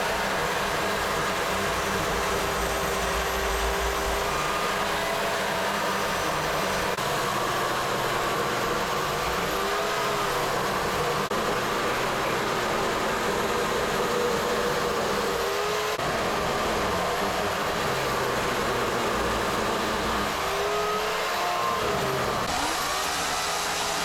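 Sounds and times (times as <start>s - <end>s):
chainsaw cutting through log: 0.0s - 24.0s.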